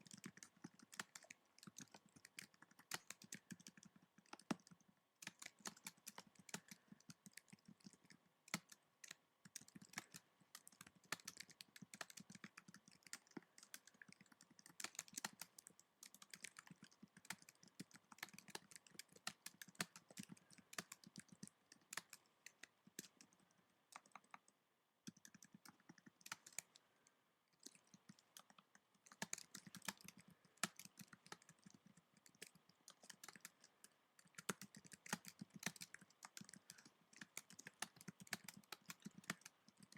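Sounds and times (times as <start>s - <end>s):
typing on computer keyboard: 0.0s - 27.0s, 27.6s - 39.9s.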